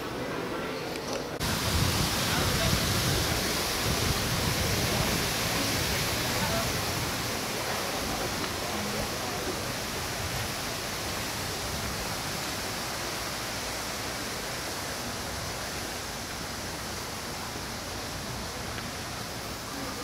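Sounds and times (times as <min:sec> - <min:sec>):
steady rushing noise: 0:01.3 - 0:20.0.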